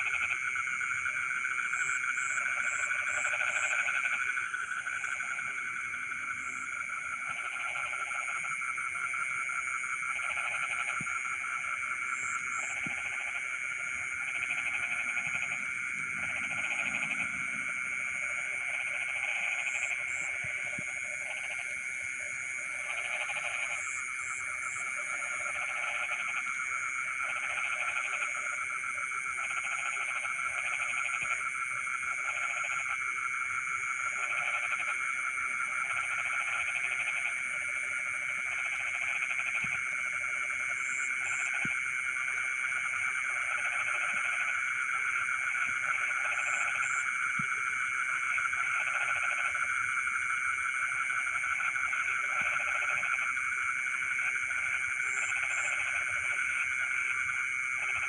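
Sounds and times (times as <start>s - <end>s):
low pulsed frog calls: 0.0s - 58.0s.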